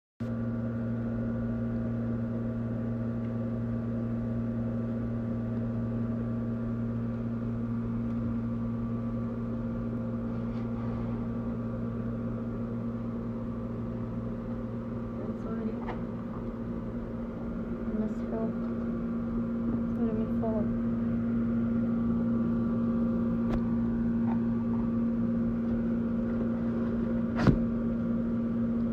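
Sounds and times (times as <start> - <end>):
washing machine motor hum: 0.2 - 28.9.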